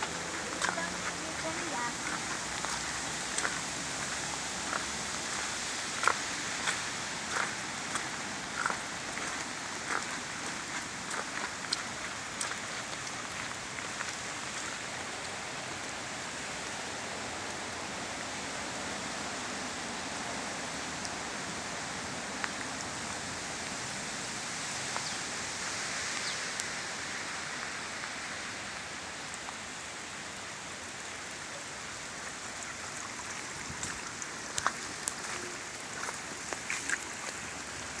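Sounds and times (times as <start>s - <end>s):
rain pattering: 0.0s - 38.0s
sharp drips and ticks: 0.0s - 38.0s.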